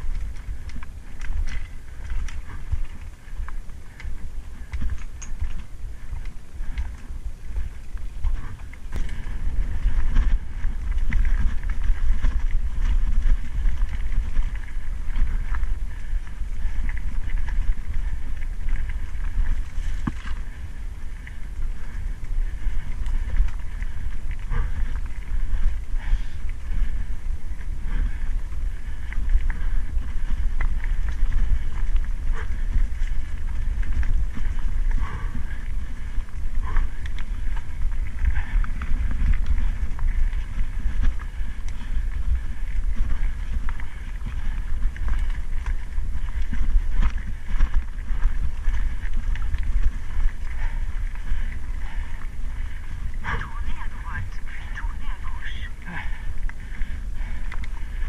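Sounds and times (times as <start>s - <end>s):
bike clicks and rattles: 0.0s - 53.0s
wind on microphone: 0.0s - 58.0s.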